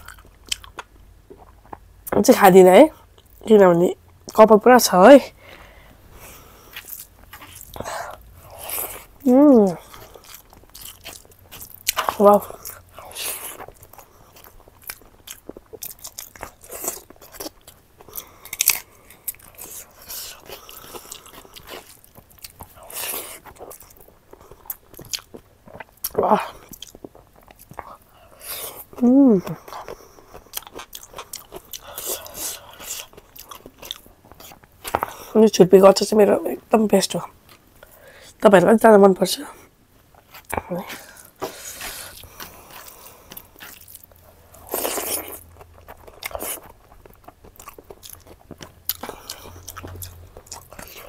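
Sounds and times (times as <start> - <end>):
wet chewing and crunchy bites: 0.0 - 2.3, 6.2 - 35.4, 40.1 - 51.0.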